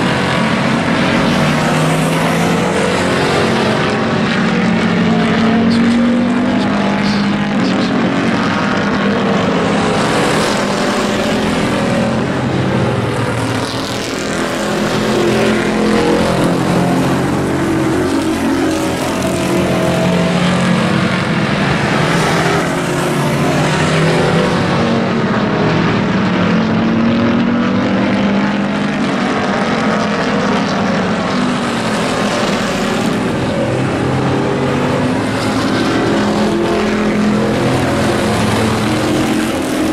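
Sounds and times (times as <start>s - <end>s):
race car engines: 0.0s - 39.9s.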